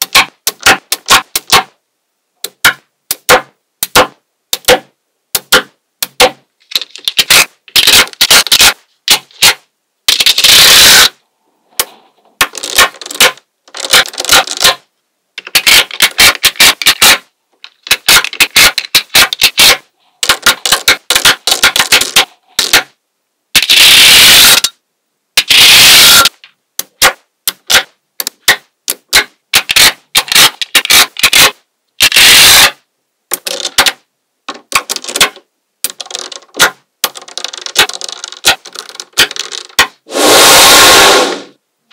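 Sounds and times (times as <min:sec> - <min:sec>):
magnetic balls clicking together: 0:00.0 - 0:01.7, 0:02.4 - 0:10.6, 0:11.8 - 0:14.8, 0:15.4 - 0:22.9, 0:26.2 - 0:40.0.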